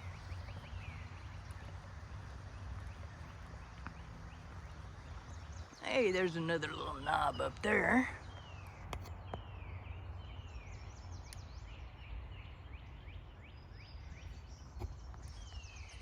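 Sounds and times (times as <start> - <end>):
songbirds whistling: 0.0 - 16.0.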